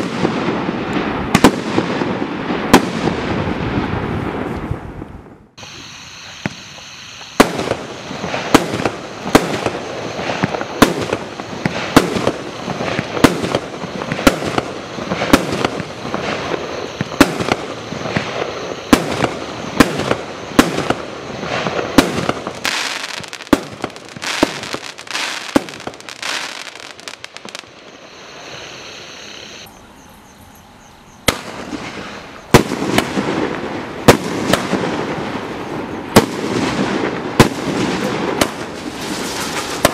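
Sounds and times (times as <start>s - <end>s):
firework shots: 0.0s - 4.8s, 5.6s - 29.7s, 31.2s - 39.9s
firework crackle and hiss: 0.0s - 29.7s, 31.2s - 39.9s.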